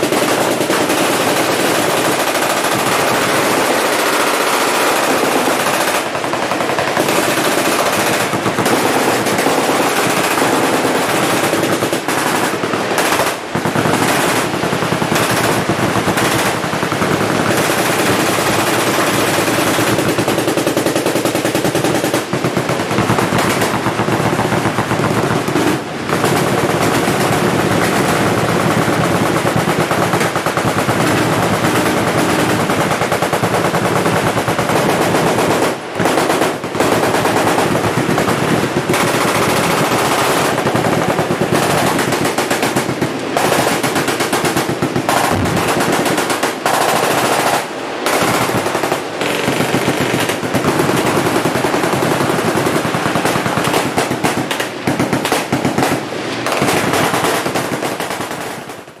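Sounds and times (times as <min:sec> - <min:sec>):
machine guns firing bursts: 0:00.0 - 0:59.0.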